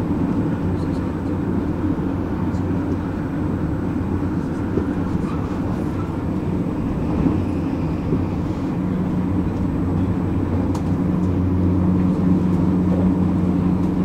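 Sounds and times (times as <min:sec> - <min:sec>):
train interior low hum: 0:00.0 - 0:14.0
wheel and rail rumbling: 0:00.0 - 0:14.0.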